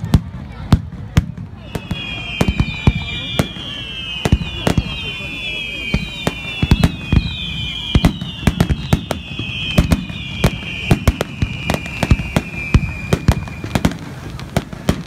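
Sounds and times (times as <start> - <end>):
fireworks bangs and cracks: 0.0 - 15.0
firework whistling falling in pitch: 1.5 - 15.0.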